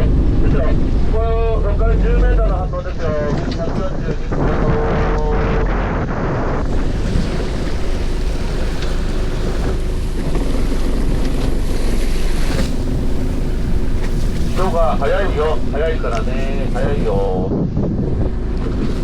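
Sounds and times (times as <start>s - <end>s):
low boat rumble: 0.0s - 19.0s
sea noise: 0.0s - 19.0s
wind buffeting microphone: 0.0s - 19.0s.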